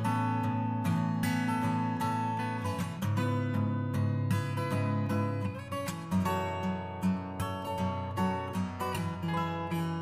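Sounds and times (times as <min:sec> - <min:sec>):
acoustic guitar playing: 0:00.0 - 0:10.0.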